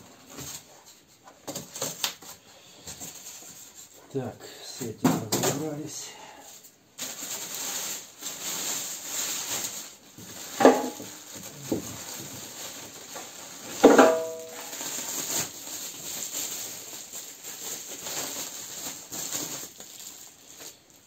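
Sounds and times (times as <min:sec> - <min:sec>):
plastic film rustling and crinkling: 0:00.0 - 0:04.1, 0:06.5 - 0:21.0.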